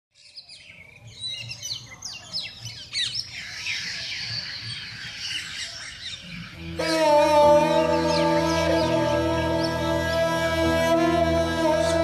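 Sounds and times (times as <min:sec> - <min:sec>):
birds chirping and twittering: 0:00.1 - 0:12.0.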